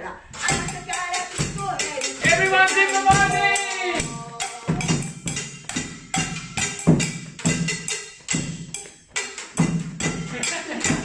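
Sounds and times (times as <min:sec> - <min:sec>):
sticks striking pots and buckets: 0:00.3 - 0:11.0.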